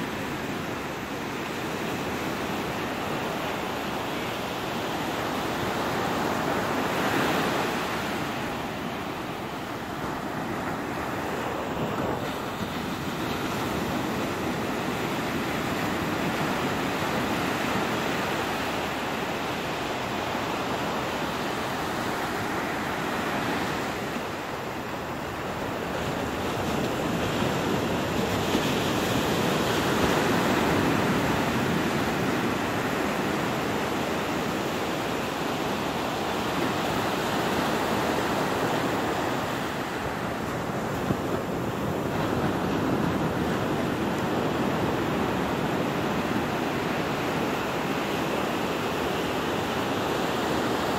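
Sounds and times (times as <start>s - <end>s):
sea surf washing up a beach: 0.0s - 50.9s.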